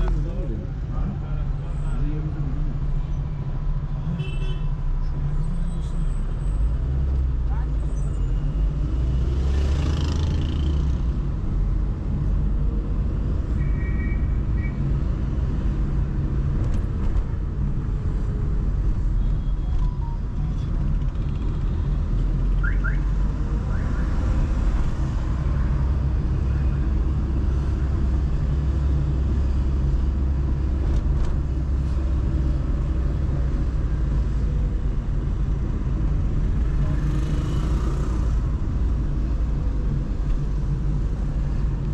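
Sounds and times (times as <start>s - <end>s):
car engine and road rumble: 0.0s - 41.9s.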